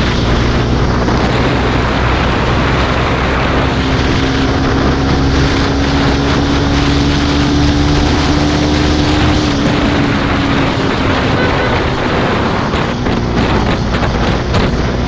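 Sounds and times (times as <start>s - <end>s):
motorcycle engine droning: 0.0s - 15.0s
wind rushing over microphone: 0.0s - 15.0s.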